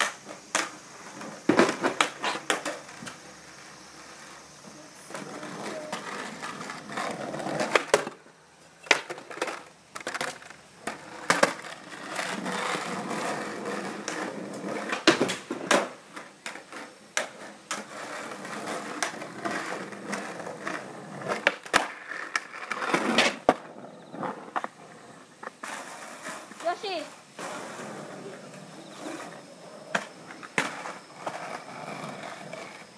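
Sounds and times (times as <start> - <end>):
skateboard clacking on ground: 0.0 - 32.9
skateboard wheels rolling on concrete: 0.0 - 32.9.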